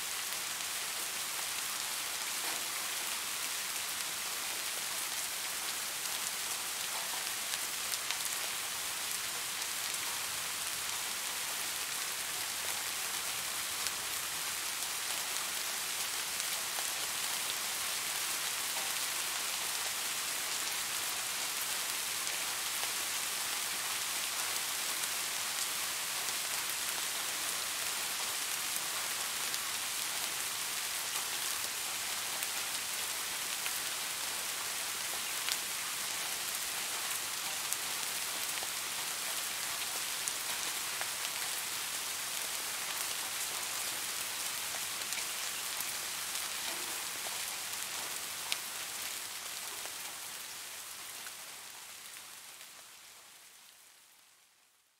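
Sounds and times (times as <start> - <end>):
rain on wet pavement: 0.0 - 54.2.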